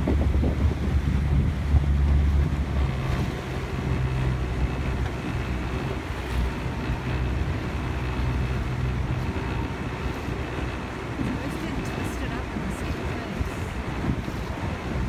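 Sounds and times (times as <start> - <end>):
motorboat engine hum: 0.0 - 15.0
water washing on hull: 0.0 - 15.0
wind buffeting microphone: 0.0 - 15.0.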